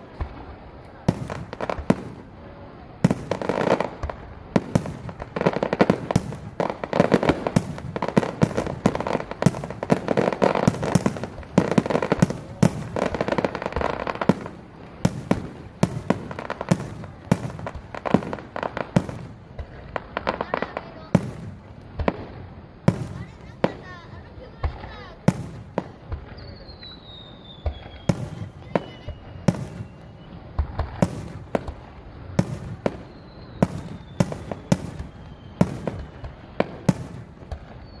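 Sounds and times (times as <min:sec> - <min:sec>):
firework bangs: 0:00.0 - 0:38.0
firework crackling: 0:00.0 - 0:38.0.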